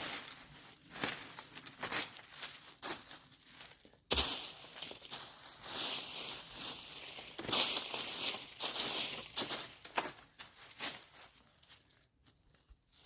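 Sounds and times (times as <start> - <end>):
footsteps through dry leaves: 0.0 - 13.0.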